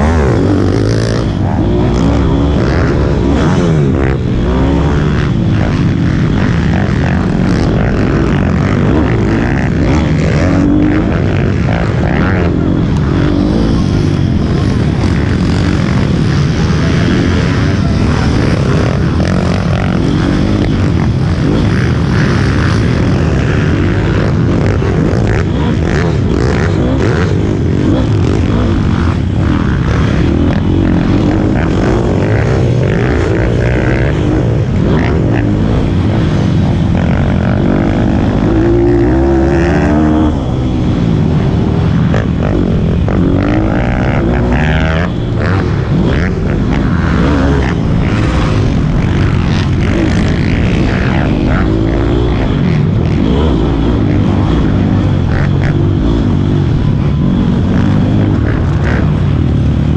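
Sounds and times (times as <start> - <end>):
motorbike engine revving: 0.0 - 59.9
wind noise: 0.0 - 59.9.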